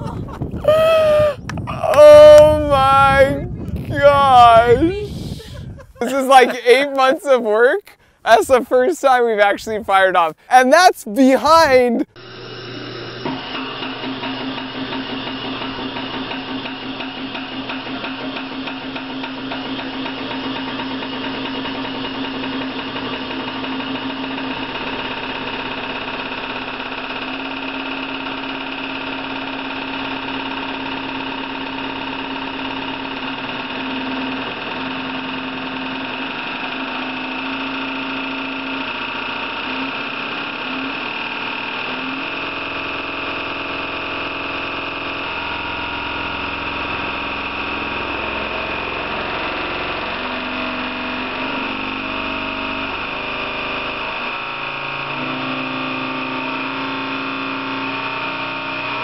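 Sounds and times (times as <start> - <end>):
test machine humming: 0.0 - 7.0, 11.5 - 59.0.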